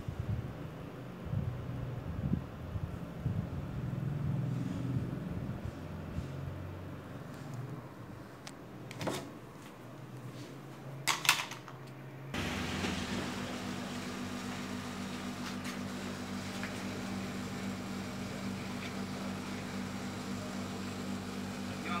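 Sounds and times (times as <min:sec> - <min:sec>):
air conditioner unit running: 0:00.0 - 0:22.0.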